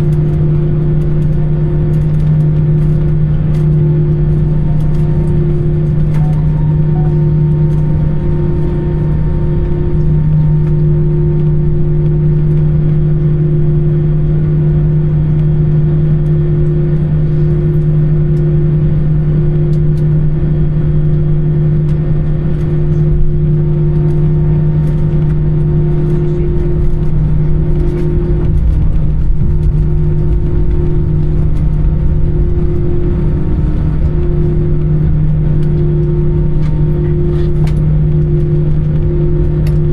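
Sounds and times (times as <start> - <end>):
aircraft engine drone: 0.0 - 39.9
low cabin rumble: 0.0 - 39.9.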